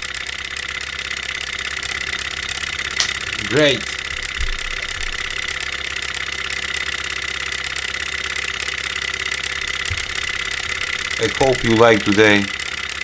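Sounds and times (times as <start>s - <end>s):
small engine rapid even ticking: 0.0s - 13.0s.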